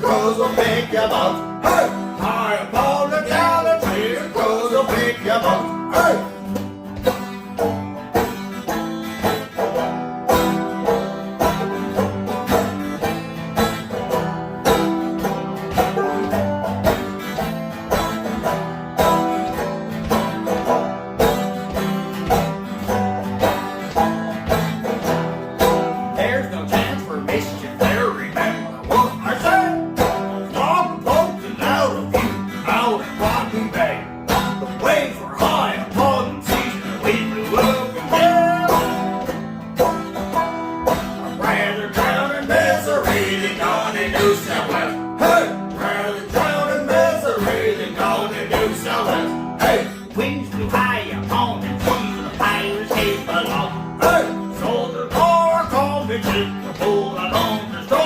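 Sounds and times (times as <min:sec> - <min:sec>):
banjo picking a quick melody: 0:00.0 - 0:58.0
steady beat: 0:00.0 - 0:58.0
strummed acoustic guitar: 0:00.0 - 0:58.0.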